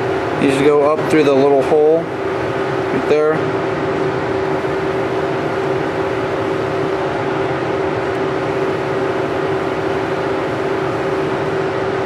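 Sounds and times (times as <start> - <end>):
fan or air conditioner humming: 0.0 - 12.0.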